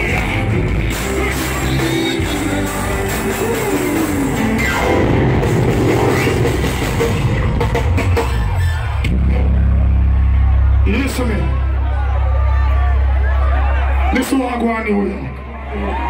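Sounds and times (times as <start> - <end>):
loud live band music: 0.0 - 14.6.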